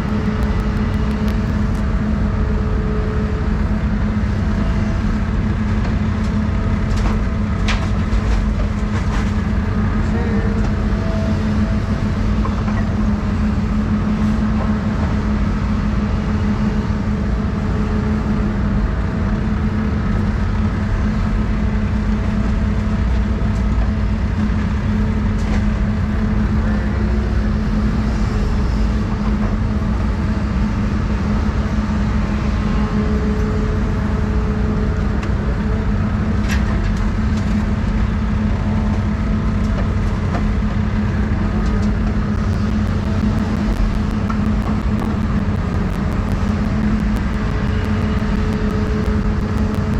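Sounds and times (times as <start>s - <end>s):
excavator diesel engine under load: 0.0s - 49.9s.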